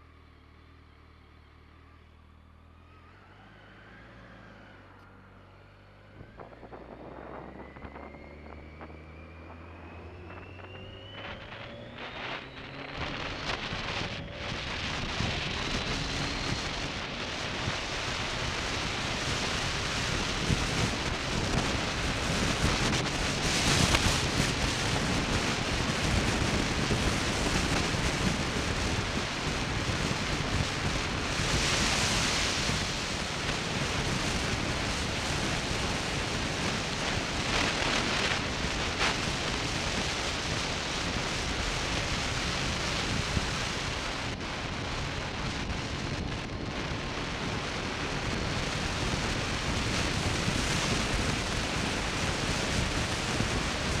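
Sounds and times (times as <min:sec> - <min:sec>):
wind rushing over microphone: 0:05.4 - 0:54.0.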